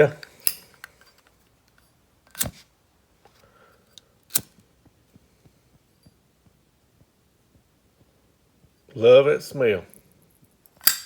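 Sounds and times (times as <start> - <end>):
faint handling sounds: 0.0 - 11.0.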